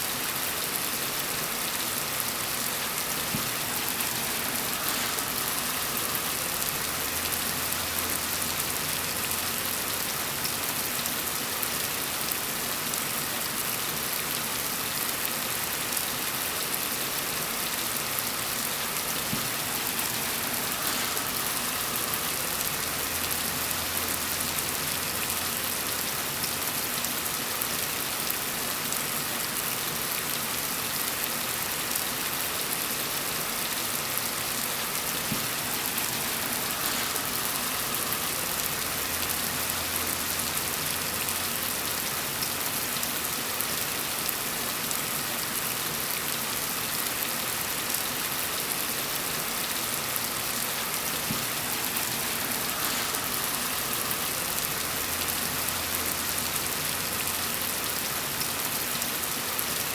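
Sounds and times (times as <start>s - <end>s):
gentle rain falling: 0.0s - 59.9s.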